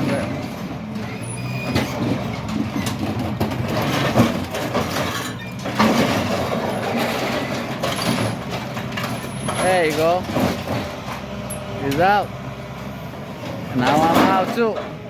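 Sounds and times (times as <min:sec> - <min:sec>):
metal clanking and knocking: 0:00.0 - 0:12.3, 0:13.4 - 0:15.0
heavy machine engine running: 0:00.0 - 0:15.0.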